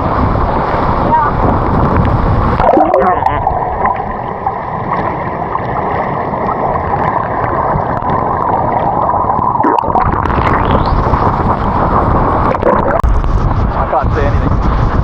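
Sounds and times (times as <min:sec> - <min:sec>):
water rushing and gurgling: 0:00.0 - 0:15.0.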